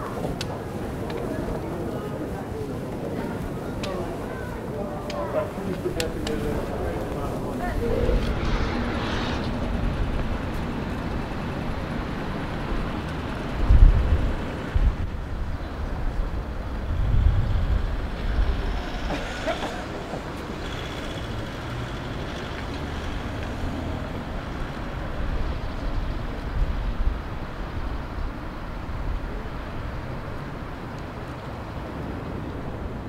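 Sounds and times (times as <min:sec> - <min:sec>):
hum of passing traffic: 0:00.0 - 0:33.0
wind buffeting microphone: 0:00.0 - 0:33.0.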